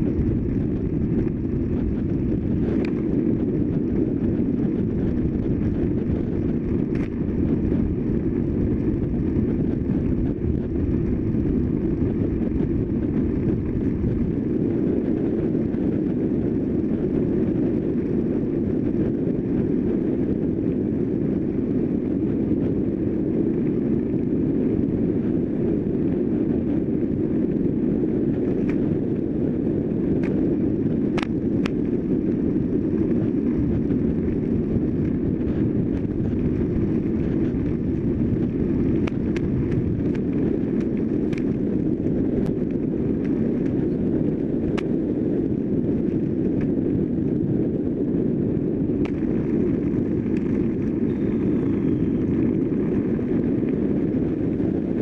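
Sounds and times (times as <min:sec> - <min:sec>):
tyre and road rumble: 0:00.0 - 0:55.0
wind rushing over microphone: 0:00.0 - 0:55.0.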